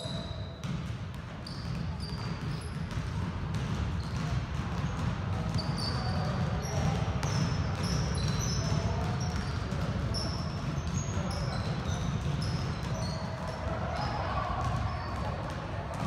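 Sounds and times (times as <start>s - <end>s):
basketballs dribbled on wooden floor: 0.0s - 16.0s
sneaker squeaks: 0.0s - 16.0s.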